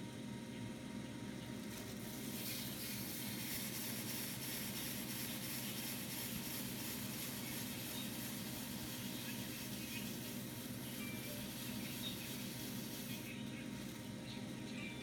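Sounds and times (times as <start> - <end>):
potter's wheel motor hum: 0.0 - 15.0.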